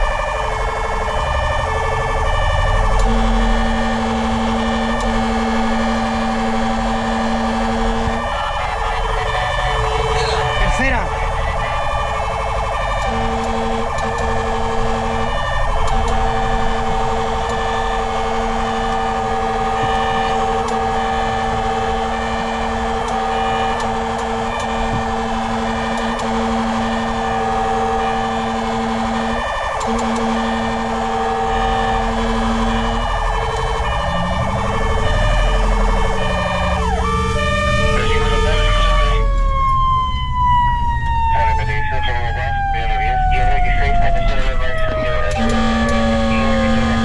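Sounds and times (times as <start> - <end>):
fast warbling siren: 0.0 - 47.0
rising and falling wail siren: 0.0 - 47.0
truck horn blasts: 2.9 - 11.4, 12.2 - 39.2, 41.8 - 47.0.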